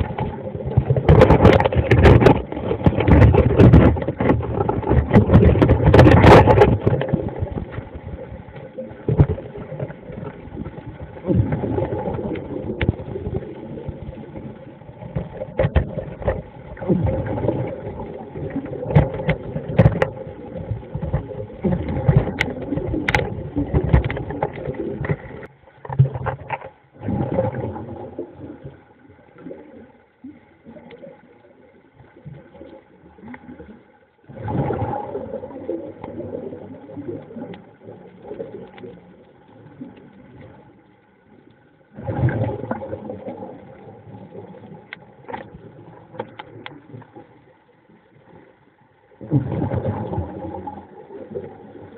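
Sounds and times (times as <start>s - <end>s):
crackling: 0.0s - 51.9s
muffled underwater drone: 0.0s - 51.9s.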